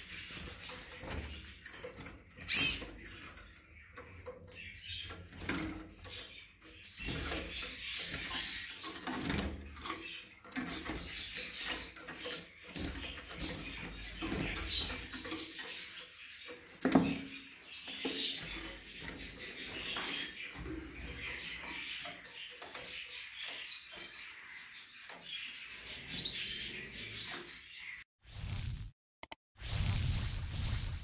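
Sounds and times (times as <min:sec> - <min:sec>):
small birds chirping: 0:00.0 - 0:28.1.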